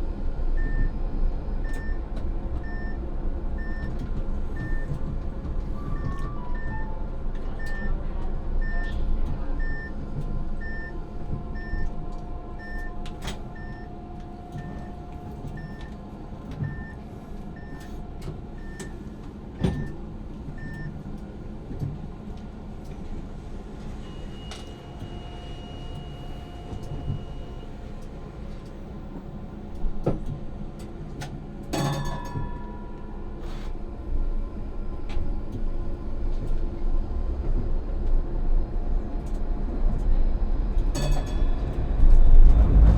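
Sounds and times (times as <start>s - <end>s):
tram hum and rumble: 0.0s - 42.9s.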